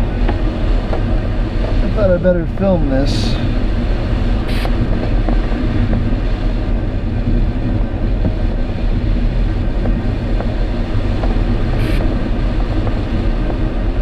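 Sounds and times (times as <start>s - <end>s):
airflow rushing over glider: 0.0s - 14.0s.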